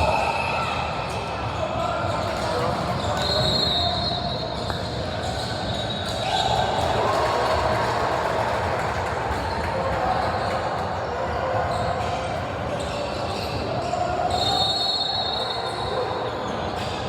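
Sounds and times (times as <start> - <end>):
voices of players and spectators: 0.0 - 17.0.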